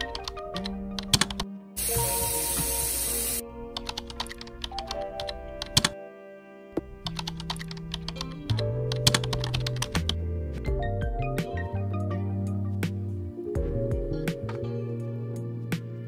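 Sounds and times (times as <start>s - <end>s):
background music with bass notes: 0.0s - 5.7s, 6.8s - 16.0s.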